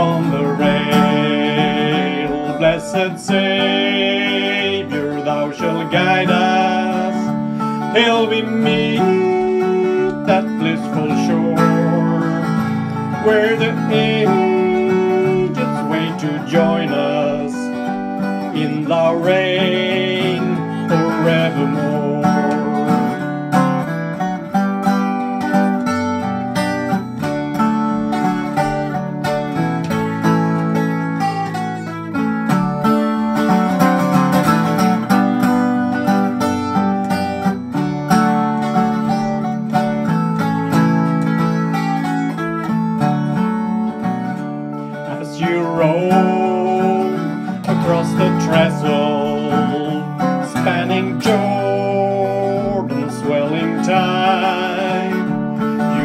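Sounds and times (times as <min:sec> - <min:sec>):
acoustic guitar country music: 0:00.0 - 0:56.0.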